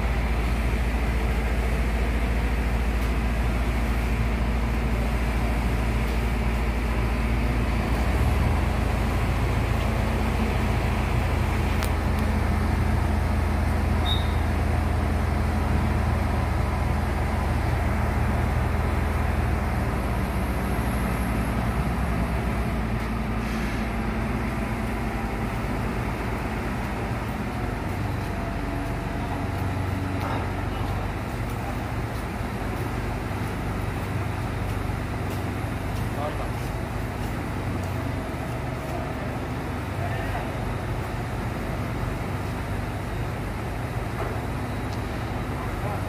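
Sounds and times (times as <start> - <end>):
diesel engine droning: 0.0 - 46.0.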